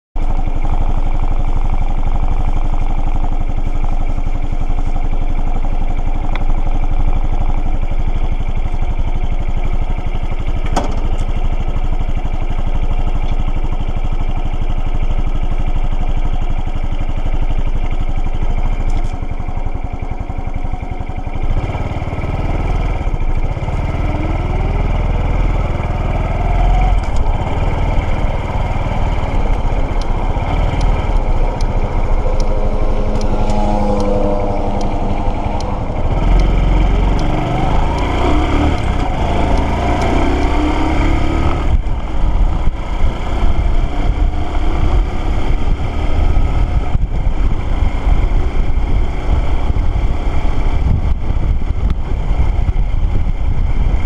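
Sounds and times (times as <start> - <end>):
motorcycle engine: 0.2 - 54.0.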